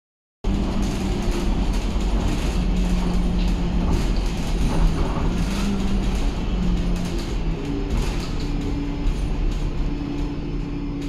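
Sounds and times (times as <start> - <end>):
bus engine drone: 0.4 - 11.0
interior fittings rattling: 0.5 - 10.4.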